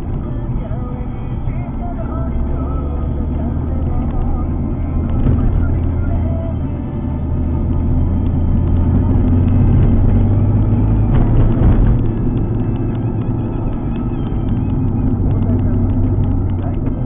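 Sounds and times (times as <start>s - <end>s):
car engine drone: 0.0s - 17.0s
tyre and road noise: 0.0s - 17.0s.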